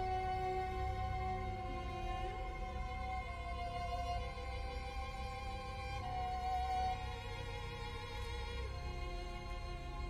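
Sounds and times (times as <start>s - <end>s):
orchestra playing held string chords: 0.0s - 10.0s.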